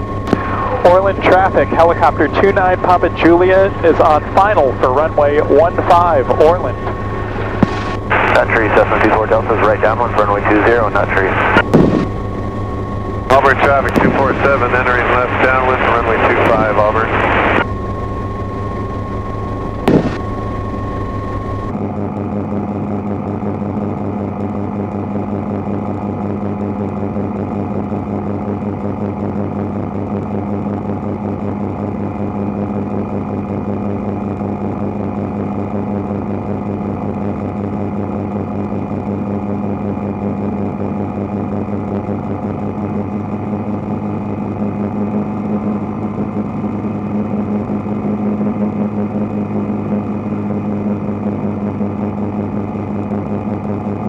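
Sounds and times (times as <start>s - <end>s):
helicopter rotor drone: 0.0s - 54.0s.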